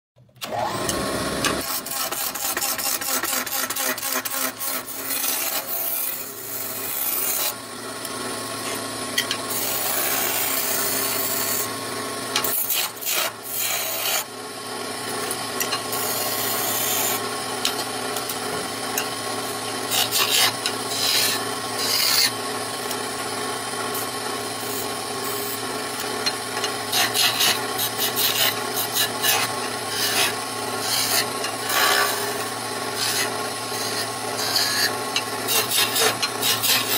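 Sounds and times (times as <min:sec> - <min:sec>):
wood lathe motor hum: 0:00.4 - 0:36.9
chisel scraping spinning wood: 0:00.8 - 0:36.9.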